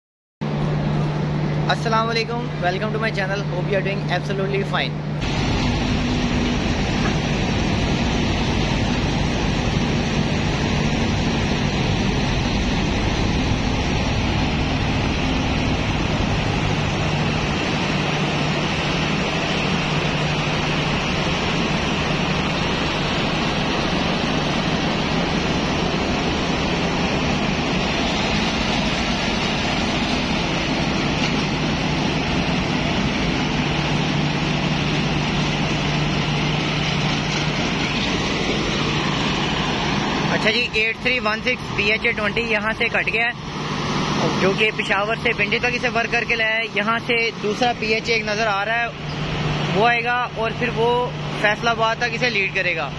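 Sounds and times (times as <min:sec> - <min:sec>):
diesel locomotive engines running: 0:00.4 - 0:52.9.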